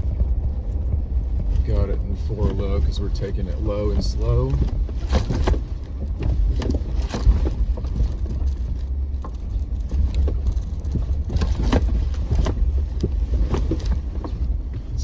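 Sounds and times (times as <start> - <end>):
engine and drivetrain rumble: 0.0 - 15.0
tires and chassis clunking on rocks: 0.0 - 15.0.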